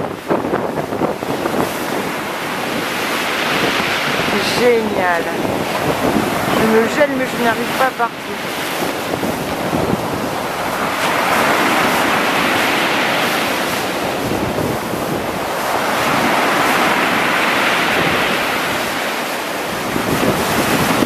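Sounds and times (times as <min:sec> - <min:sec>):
surf breaking on pebble beach: 0:00.0 - 0:21.0
wind buffeting microphone: 0:00.0 - 0:21.0.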